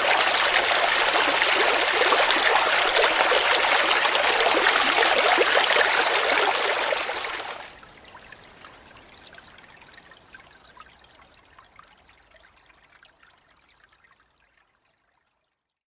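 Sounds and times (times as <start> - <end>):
stream trickling over rocks: 0.0 - 15.7.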